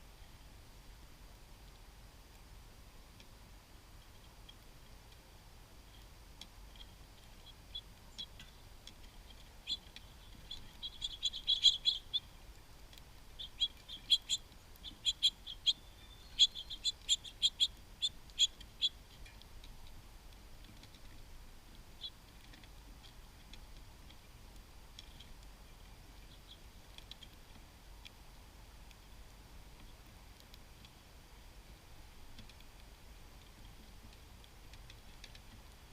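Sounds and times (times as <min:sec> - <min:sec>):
small birds chipping: 0:03.1 - 0:35.9.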